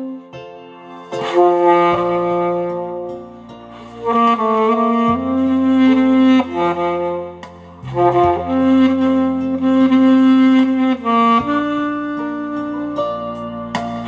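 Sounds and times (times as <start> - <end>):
alto saxophone melody: 0.0 - 14.0
recorded accompaniment with bass line: 0.0 - 14.0.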